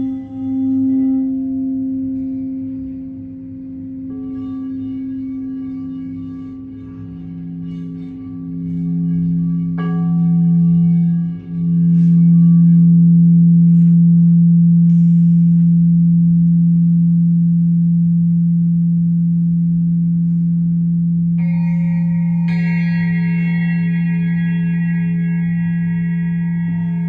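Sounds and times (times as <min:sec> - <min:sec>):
singing bowl humming: 0:00.0 - 0:27.0.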